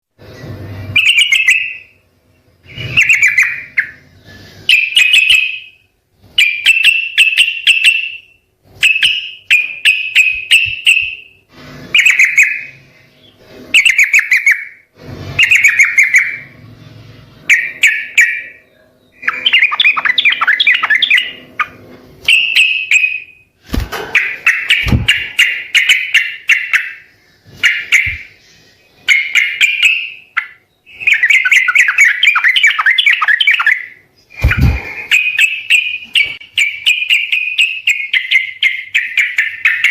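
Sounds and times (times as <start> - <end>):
bulbul chattering song: 0.8 - 2.0, 2.6 - 14.8, 15.4 - 16.6, 17.4 - 23.5, 24.2 - 39.9.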